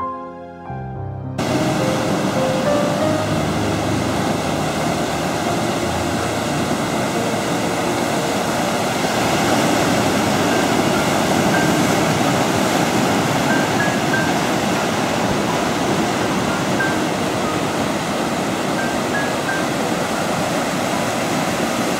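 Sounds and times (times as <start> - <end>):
soft background music: 0.0 - 21.0
sea surf on rocky shore: 1.4 - 21.9.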